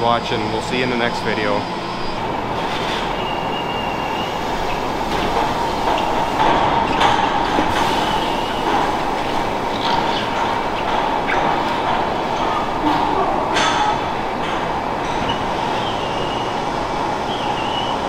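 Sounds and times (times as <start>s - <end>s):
milking machinery noise: 0.0s - 18.0s.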